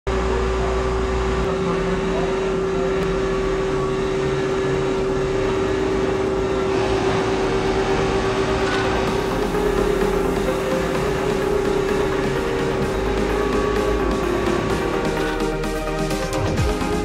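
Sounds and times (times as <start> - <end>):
printer machine hum: 0.1 - 17.0.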